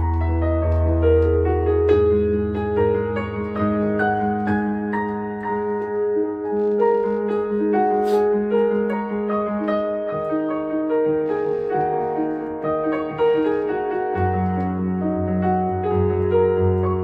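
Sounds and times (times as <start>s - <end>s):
synthesizer piano melody: 0.0s - 17.0s.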